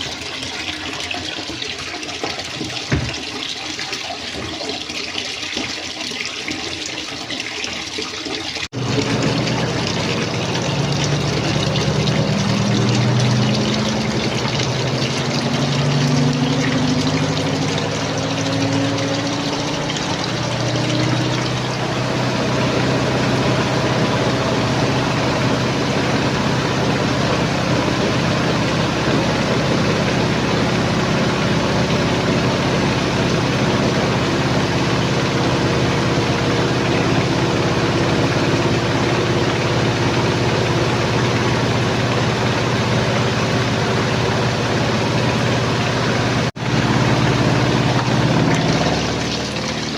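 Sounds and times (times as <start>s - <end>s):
washing machine motor humming: 0.0s - 49.9s
water churning: 0.0s - 49.9s
water running into washing machine: 0.0s - 49.9s.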